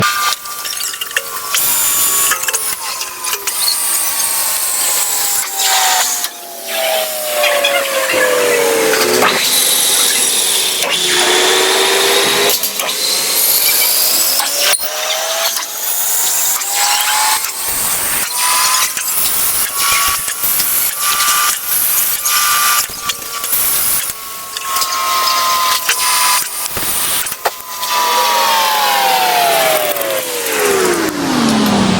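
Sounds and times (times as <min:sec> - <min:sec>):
cutting tool scraping workpiece: 0:00.0 - 0:31.6
lathe motor whine: 0:00.0 - 0:31.9.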